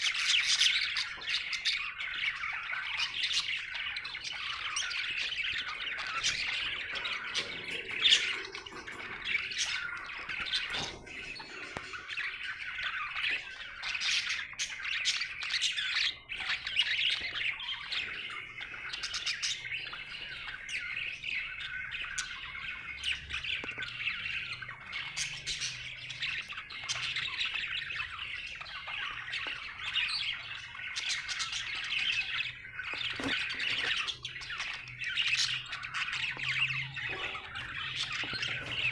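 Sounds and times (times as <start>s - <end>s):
budgerigar chirping and chattering: 0.0s - 38.9s.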